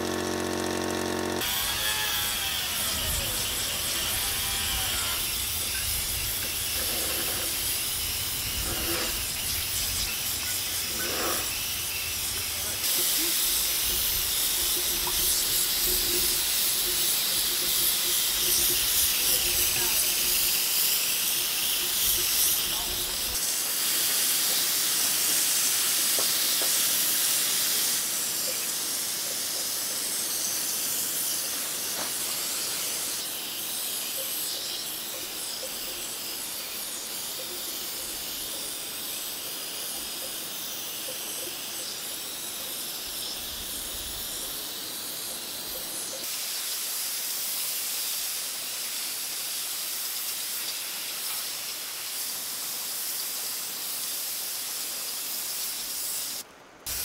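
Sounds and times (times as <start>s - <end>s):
spray gun hissing: 0.0s - 57.0s.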